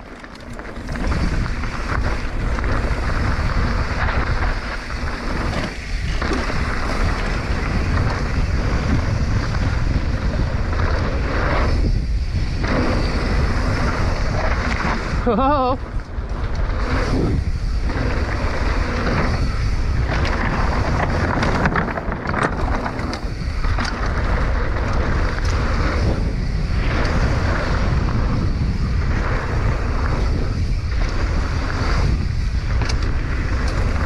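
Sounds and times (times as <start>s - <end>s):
bike tyres rolling on dirt: 0.0s - 34.0s
wind rushing over microphone: 0.0s - 34.0s.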